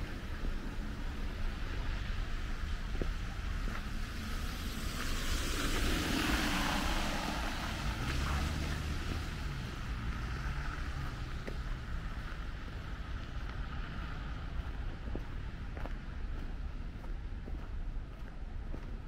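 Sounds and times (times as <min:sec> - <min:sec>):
car tyre noise passing: 0:00.0 - 0:19.0
low engine hum: 0:00.0 - 0:19.0.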